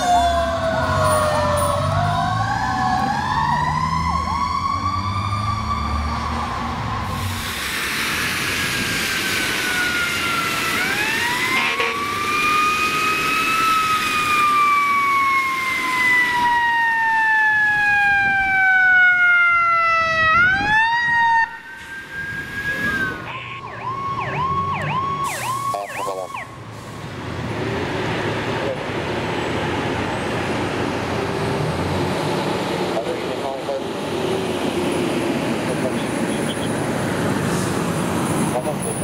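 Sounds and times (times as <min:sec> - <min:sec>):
fire engine siren: 0:00.0 - 0:34.6, 0:35.2 - 0:39.0.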